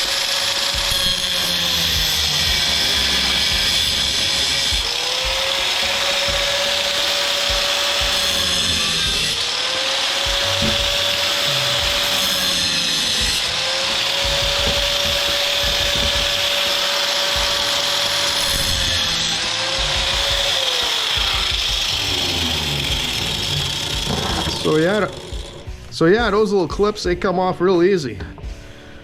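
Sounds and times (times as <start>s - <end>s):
power tool cutting metal: 0.0s - 25.8s.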